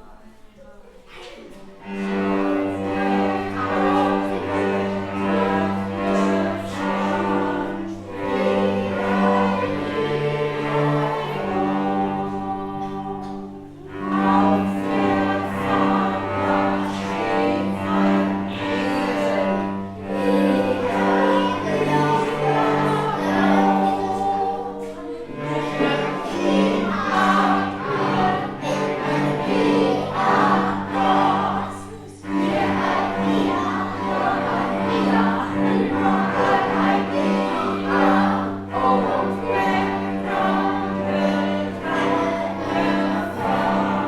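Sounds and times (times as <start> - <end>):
choir singing: 1.8 - 44.0
sustained low notes: 1.8 - 44.0.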